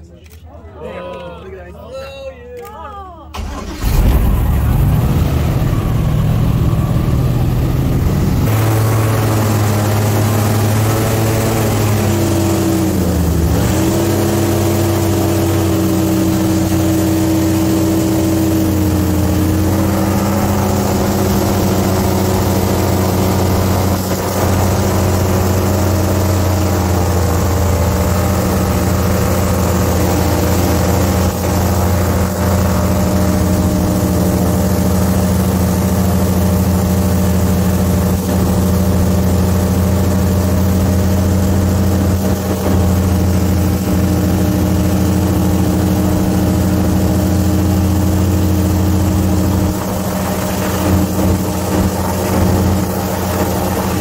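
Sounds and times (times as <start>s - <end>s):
airboat engine and propeller: 3.4s - 54.0s.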